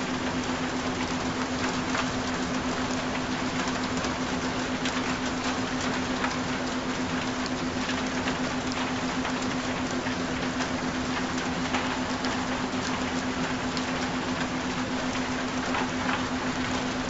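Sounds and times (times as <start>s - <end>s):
raindrops pattering: 0.0s - 17.0s
steady rain falling: 0.0s - 17.0s.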